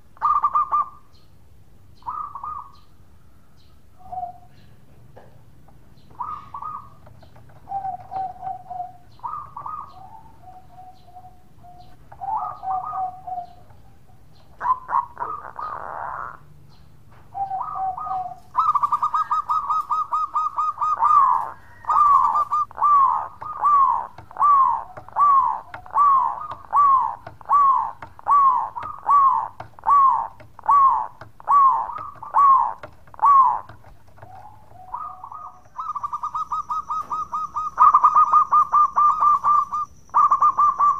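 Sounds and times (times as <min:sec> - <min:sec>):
dove cooing: 0:00.0 - 0:01.0, 0:02.0 - 0:02.8, 0:04.0 - 0:04.6, 0:06.0 - 0:16.5, 0:17.3 - 0:40.9.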